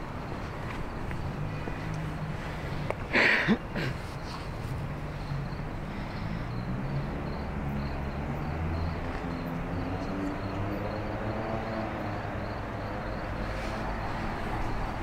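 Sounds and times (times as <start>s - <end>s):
crickets chirping: 0.0s - 15.0s
vehicle engine humming: 0.0s - 15.0s.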